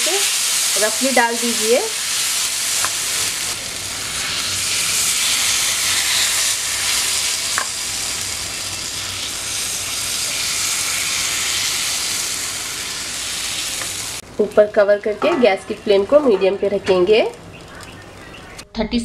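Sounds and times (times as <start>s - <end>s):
batter sizzling on hot pan: 0.0s - 18.6s.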